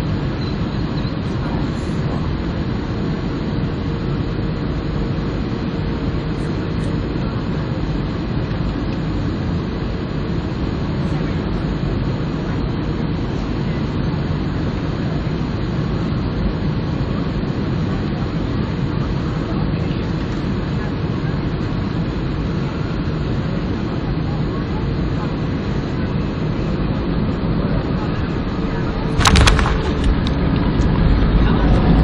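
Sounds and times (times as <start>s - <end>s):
airliner cabin engine roar: 0.0s - 32.0s
faint steady whine: 0.0s - 32.0s.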